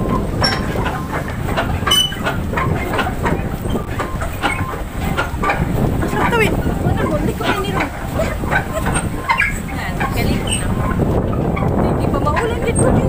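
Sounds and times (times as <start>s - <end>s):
churning water rumble: 0.0s - 13.0s
paddle-wheel mechanism clacking: 0.0s - 13.0s.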